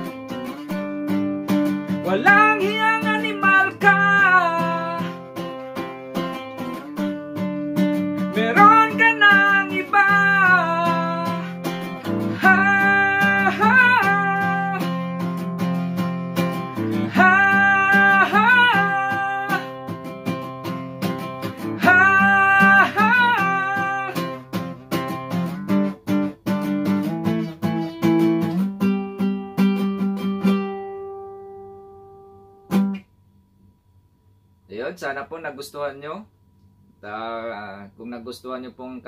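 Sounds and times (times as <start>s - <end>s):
acoustic guitar strumming: 0.0s - 33.4s.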